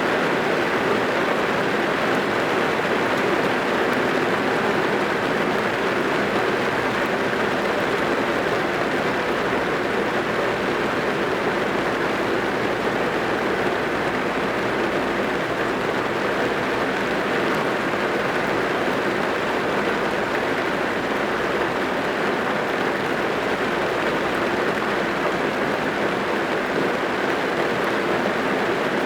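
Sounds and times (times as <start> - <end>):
rain drumming on car roof: 0.1 - 27.4.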